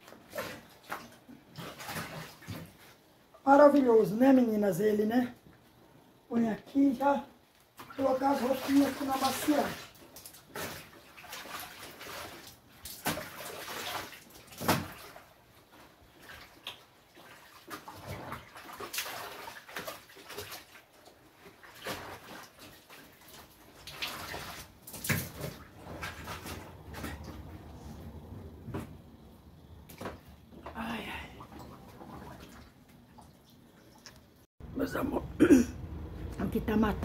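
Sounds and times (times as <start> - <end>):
water splashing and sloshing: 0.0 - 5.8, 6.8 - 34.5.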